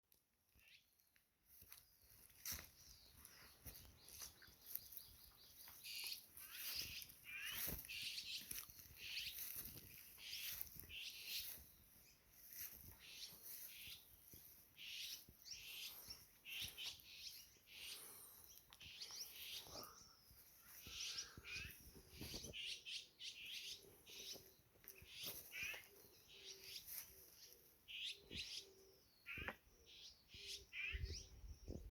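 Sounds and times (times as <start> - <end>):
small birds chirping: 0.5 - 31.9.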